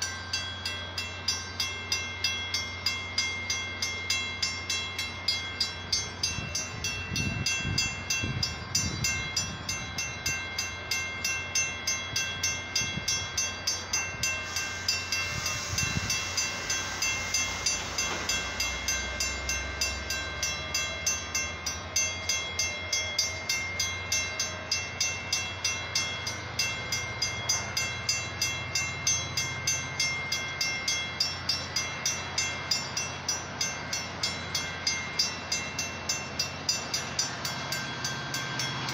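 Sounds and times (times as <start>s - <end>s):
crossing warning bell ringing: 0.0s - 38.9s
train rumbling past: 0.0s - 38.9s.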